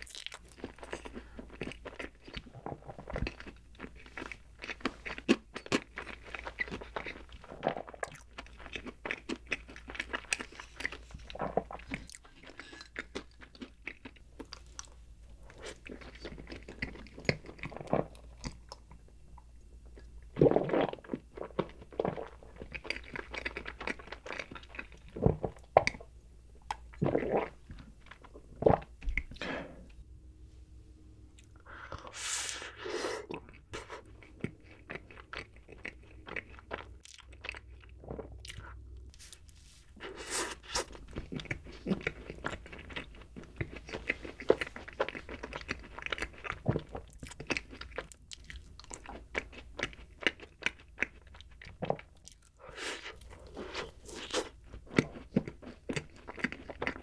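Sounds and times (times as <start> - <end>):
mouth chewing and crunching: 0.0 - 29.5, 33.2 - 57.0.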